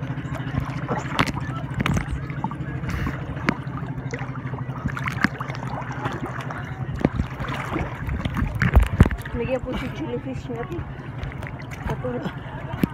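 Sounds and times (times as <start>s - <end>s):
boat engine humming: 0.0s - 12.9s
water splashing and lapping: 0.0s - 12.9s.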